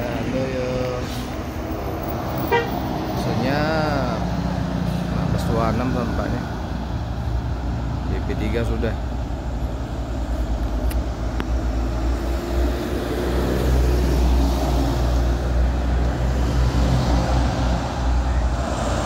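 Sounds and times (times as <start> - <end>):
heavy traffic passing: 0.0 - 19.0
tyre and road noise: 0.0 - 19.0.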